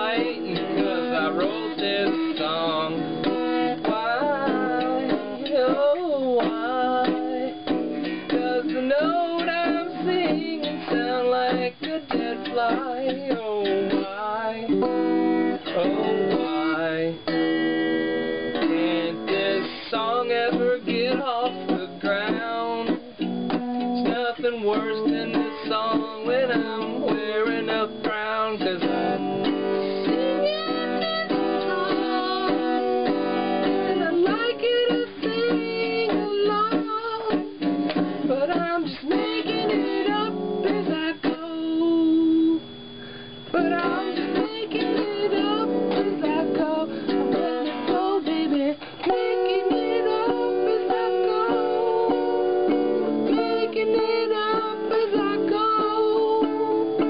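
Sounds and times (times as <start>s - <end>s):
man singing: 0.0s - 17.4s, 18.5s - 37.6s, 38.2s - 42.7s, 43.5s - 57.0s
acoustic guitar strumming: 0.0s - 57.0s.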